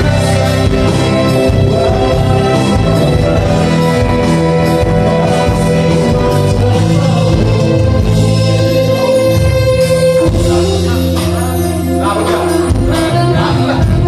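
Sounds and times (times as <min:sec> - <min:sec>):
live band playing: 0:00.0 - 0:14.0
person singing: 0:00.0 - 0:14.0.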